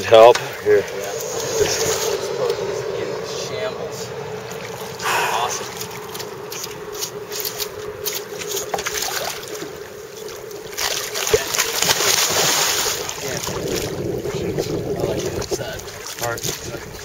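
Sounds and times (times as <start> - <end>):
faint steady hum: 0.0 - 16.1.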